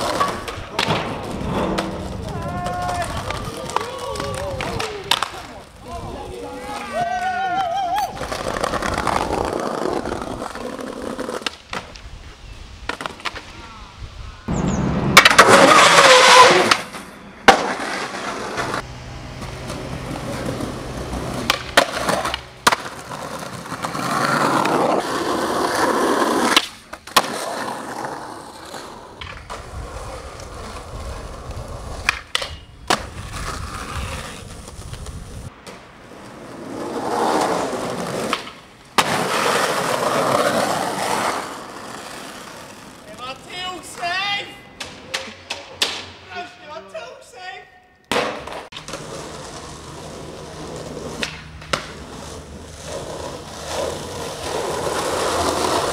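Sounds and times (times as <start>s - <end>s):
skateboard clacking on ground: 0.0s - 12.1s, 19.4s - 46.2s, 48.1s - 55.9s
skateboard wheels rolling on concrete: 0.0s - 55.9s.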